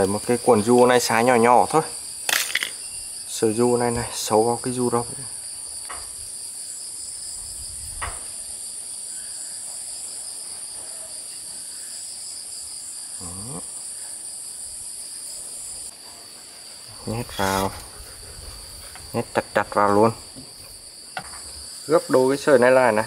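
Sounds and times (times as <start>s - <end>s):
shrill insect chorus: 0.0s - 23.0s.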